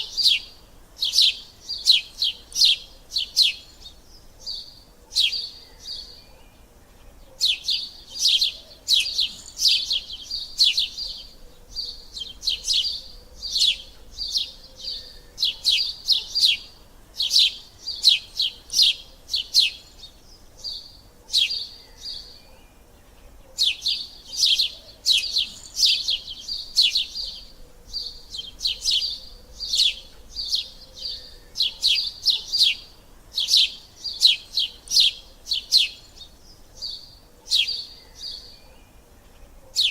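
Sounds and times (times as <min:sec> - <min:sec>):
sparrow chirping: 0:00.0 - 0:39.9.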